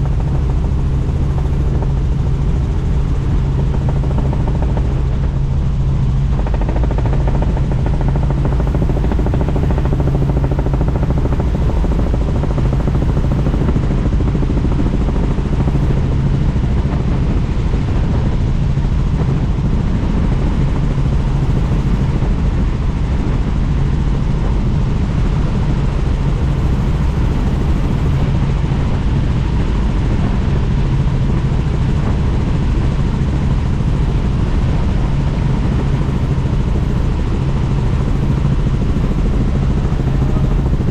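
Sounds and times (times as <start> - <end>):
helicopter rotor and engine drone: 0.0 - 40.9.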